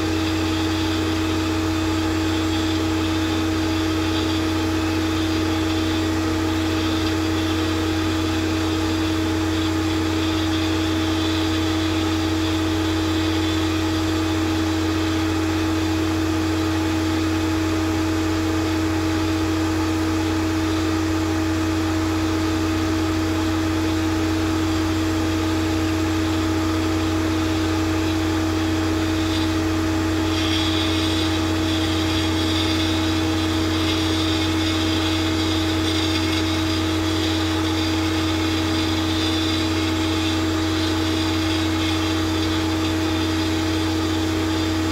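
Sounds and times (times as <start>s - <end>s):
ice drilling rig droning: 0.0s - 44.9s.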